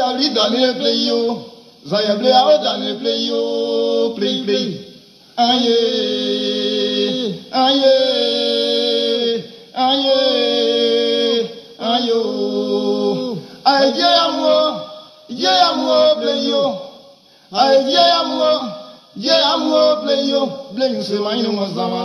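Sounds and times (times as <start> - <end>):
man singing chant-like notes: 0.0 - 4.8, 5.4 - 22.0.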